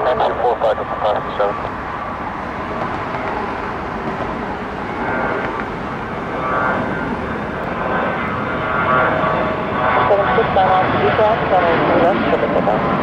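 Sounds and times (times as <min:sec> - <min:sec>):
faint high whine: 0:00.0 - 0:13.0
jet engines rushing: 0:00.0 - 0:13.0.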